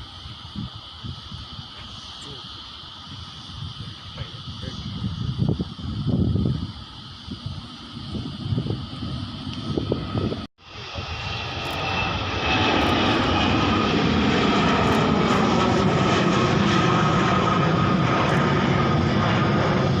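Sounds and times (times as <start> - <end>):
faint engine whine: 0.0 - 20.0
jet airliner engines: 0.0 - 20.0.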